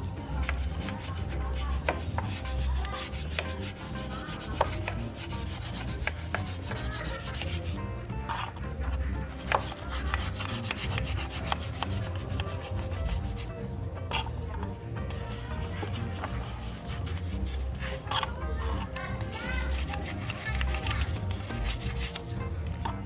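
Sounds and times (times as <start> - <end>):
brush scrubbing engine casing: 0.0 - 14.4, 15.0 - 23.0.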